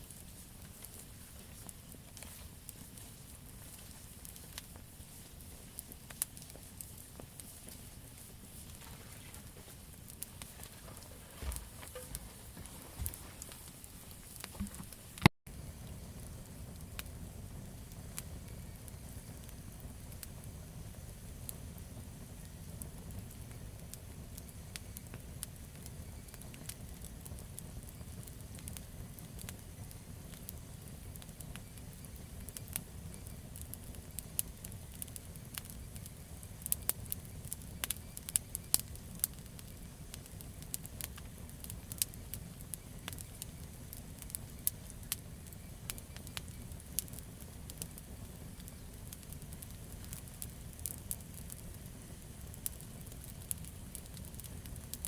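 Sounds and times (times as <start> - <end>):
fire popping and snapping: 0.0 - 55.0
low rumble of flame: 0.0 - 55.0.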